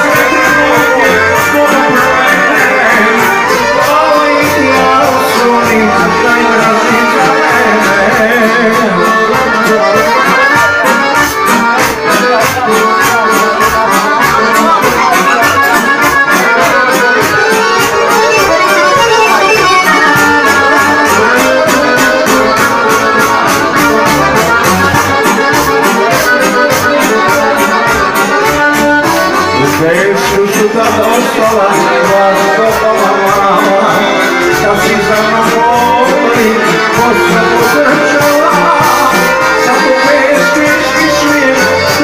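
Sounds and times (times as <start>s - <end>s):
band playing accordion-led music: 0.0s - 42.0s.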